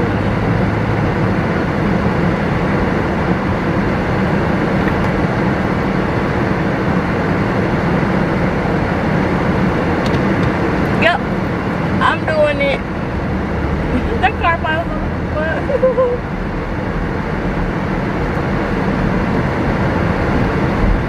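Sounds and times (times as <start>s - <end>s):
car interior road noise: 0.0s - 21.0s.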